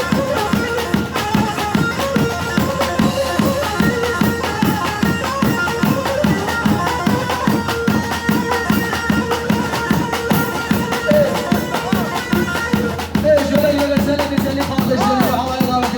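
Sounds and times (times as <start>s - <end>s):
sustained melody line: 0.0s - 15.8s
steady drum beat: 0.0s - 15.9s.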